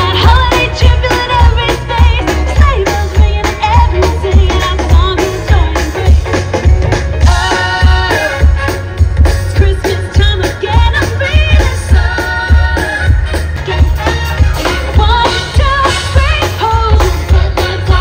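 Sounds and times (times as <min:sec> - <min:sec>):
drums and bass: 0:00.0 - 0:18.0.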